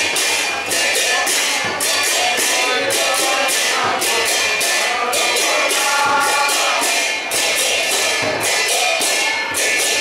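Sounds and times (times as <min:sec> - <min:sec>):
group singing: 0:00.0 - 0:10.0
hand cymbals struck in steady beat: 0:00.0 - 0:10.0.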